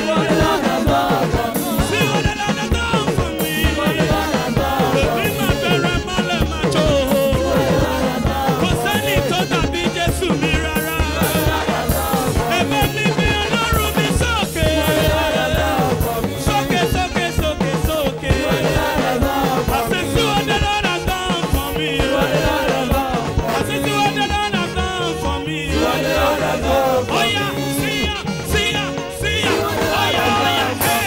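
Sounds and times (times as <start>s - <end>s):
band with steady bass beat: 0.0s - 31.0s
man singing into a microphone: 0.0s - 31.0s.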